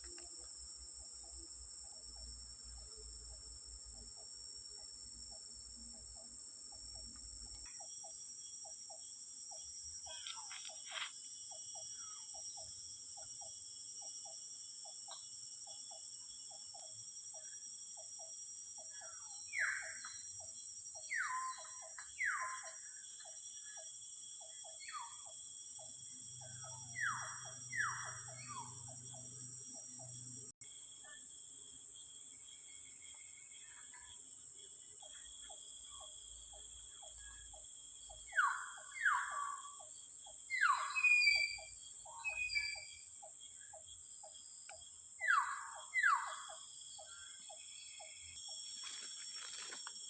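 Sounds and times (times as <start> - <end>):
insects droning: 0.0 - 50.0.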